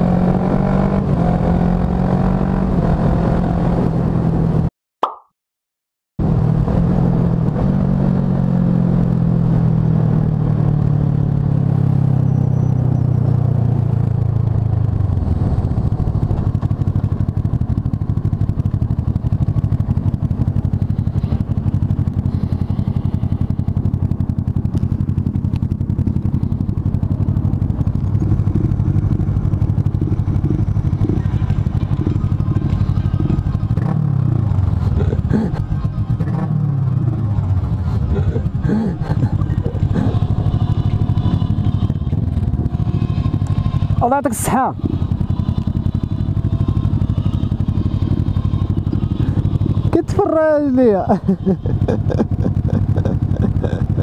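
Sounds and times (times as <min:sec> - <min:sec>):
motorcycle engine idling and revving: 0:00.0 - 0:04.7, 0:06.2 - 0:54.0.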